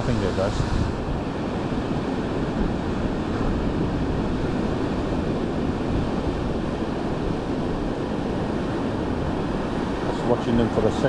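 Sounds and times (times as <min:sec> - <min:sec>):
surf breaking on rocky shore: 0:00.0 - 0:11.0
wind buffeting microphone: 0:00.0 - 0:11.0.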